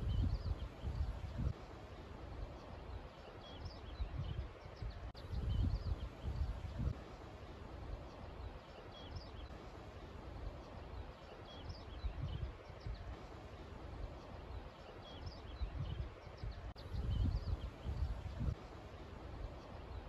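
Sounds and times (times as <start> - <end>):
songbirds chirping: 0.0 - 20.0
wind rumbling on microphone: 0.0 - 20.0.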